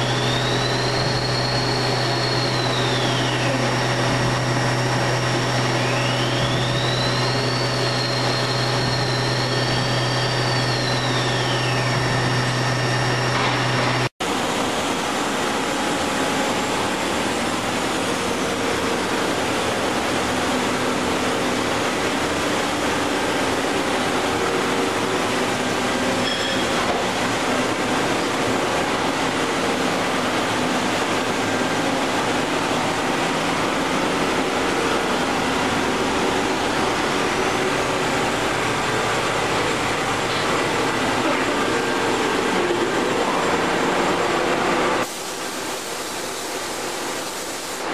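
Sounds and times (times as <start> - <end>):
machinery hum and rush: 0.0 - 47.9.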